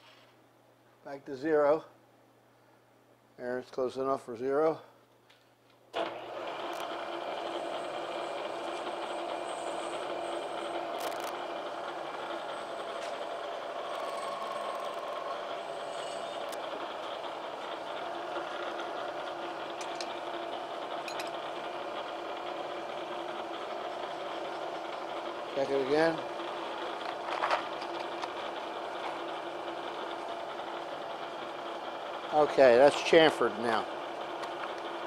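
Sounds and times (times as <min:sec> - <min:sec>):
milling machine spindle running: 0:06.0 - 0:35.0.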